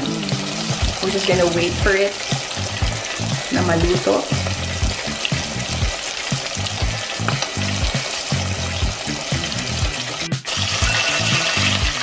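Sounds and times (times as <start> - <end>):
background music with bass line: 0.0 - 12.0
chicken sizzling in hot oil: 0.0 - 12.0.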